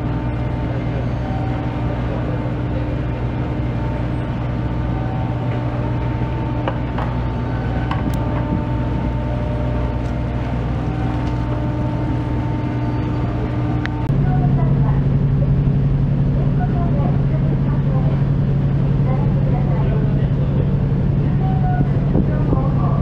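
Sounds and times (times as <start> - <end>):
ferry engine drone: 0.0 - 23.0.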